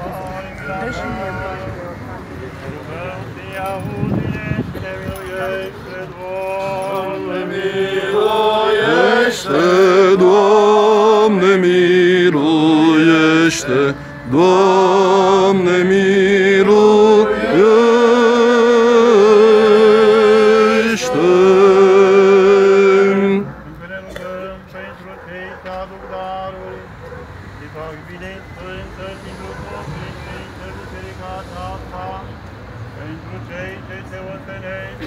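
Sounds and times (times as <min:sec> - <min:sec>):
men singing chant: 0:00.0 - 0:27.0, 0:27.6 - 0:32.4.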